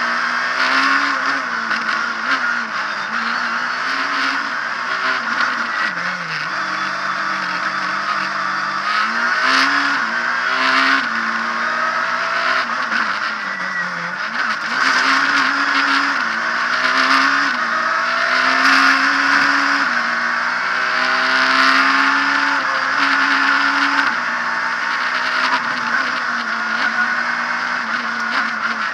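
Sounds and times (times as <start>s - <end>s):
rally car engine revving: 0.0s - 28.9s
road and wind rush: 0.0s - 28.9s.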